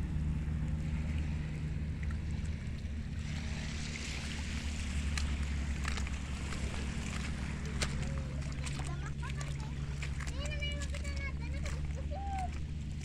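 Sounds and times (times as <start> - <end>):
steady low hum: 0.0 - 13.0
sea water washing over rocks: 0.1 - 13.0.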